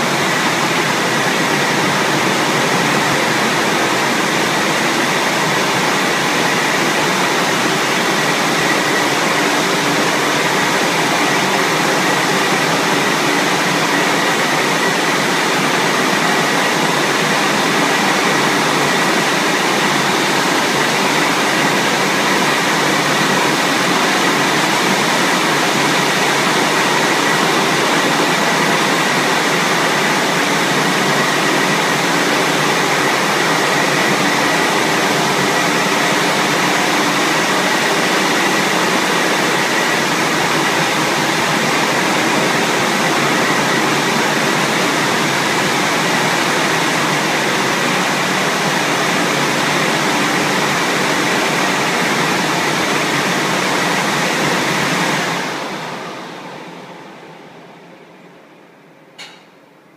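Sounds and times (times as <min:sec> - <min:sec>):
car wash rushing noise: 0:00.0 - 0:58.0.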